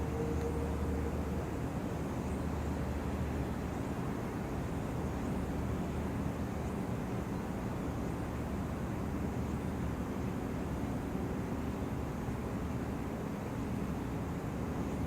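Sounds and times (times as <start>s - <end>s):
outdoor noise: 0.0s - 15.0s.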